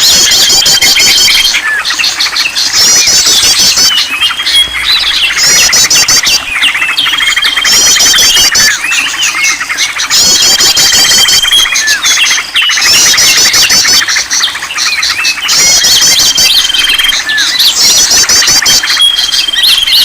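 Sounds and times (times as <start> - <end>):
chorus of songbirds: 0.0 - 20.0
steady high bird trill: 0.0 - 20.0.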